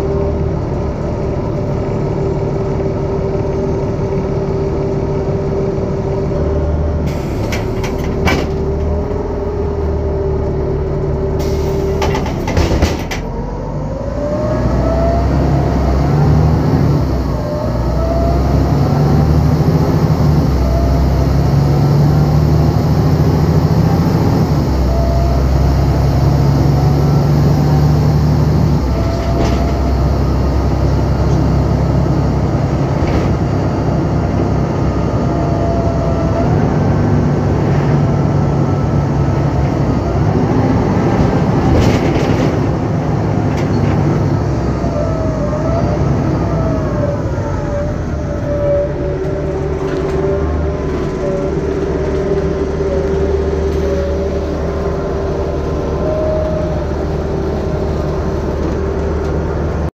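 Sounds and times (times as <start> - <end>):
bus diesel engine rumble: 0.0 - 59.9
faint engine whine: 0.0 - 59.9.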